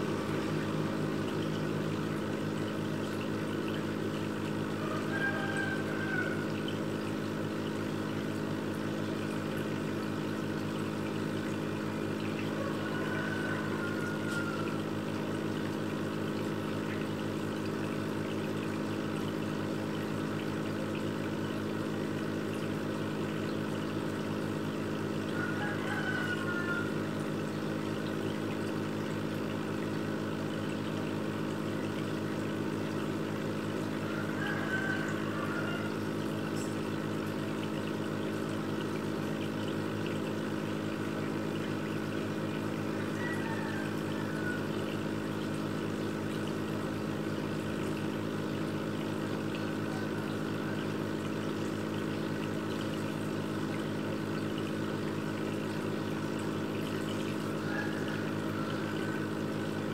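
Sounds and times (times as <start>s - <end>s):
aquarium filter pump humming: 0.0s - 59.9s
water trickling and splashing: 0.0s - 59.9s.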